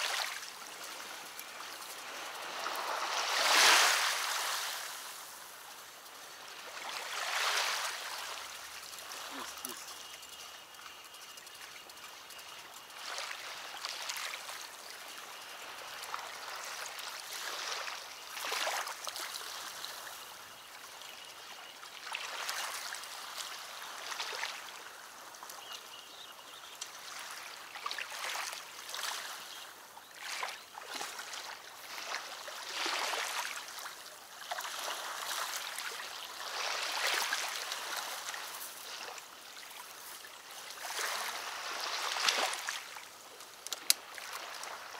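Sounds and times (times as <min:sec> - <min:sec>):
river water lapping on shore: 0:00.0 - 0:44.9.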